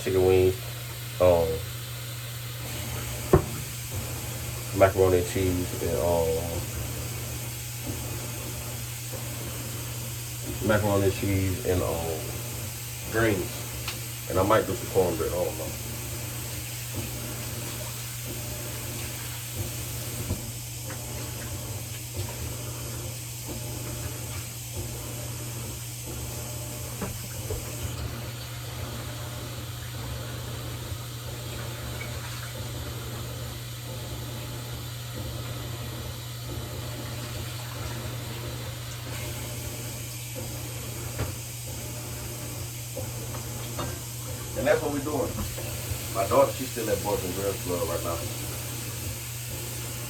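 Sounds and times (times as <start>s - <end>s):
kitchen tap running into sink: 0.0s - 50.0s.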